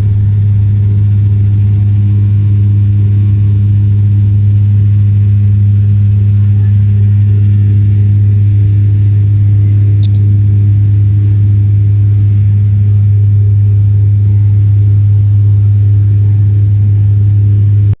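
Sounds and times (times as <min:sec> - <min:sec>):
airliner engine drone: 0:00.0 - 0:18.0.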